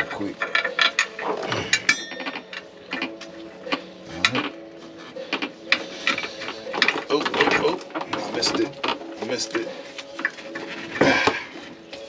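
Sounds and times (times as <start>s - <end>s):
metal clinks and knocks: 0.0s - 11.4s.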